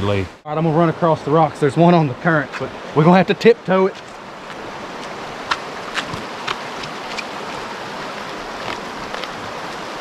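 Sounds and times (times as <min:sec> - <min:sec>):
river rushing over rocks: 0:00.6 - 0:10.0.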